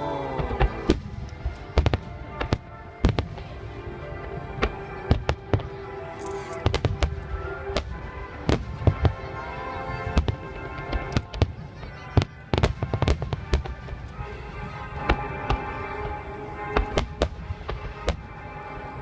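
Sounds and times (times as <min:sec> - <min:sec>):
background music: 0:00.0 - 0:19.0
fireworks bursting bangs: 0:00.2 - 0:18.6.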